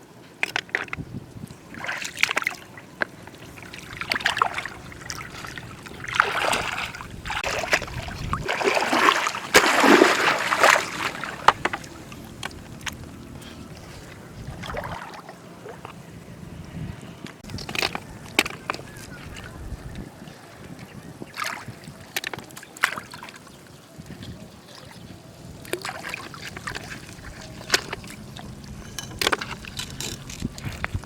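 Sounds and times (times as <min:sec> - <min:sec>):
water sloshing and splashing: 0:00.4 - 0:31.0.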